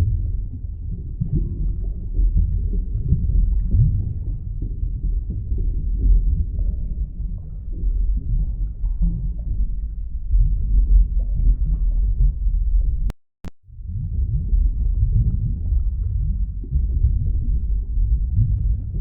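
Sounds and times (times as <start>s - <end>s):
low muffled rumble: 0.0s - 19.0s.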